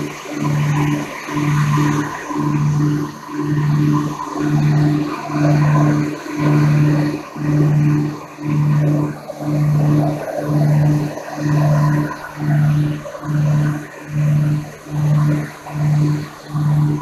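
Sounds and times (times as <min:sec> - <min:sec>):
aircraft engines droning in cabin: 0:00.0 - 0:17.0.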